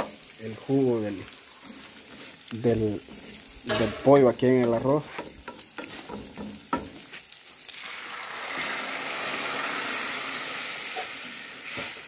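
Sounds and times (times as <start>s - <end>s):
liquid hissing in hot pan: 0.0s - 12.0s.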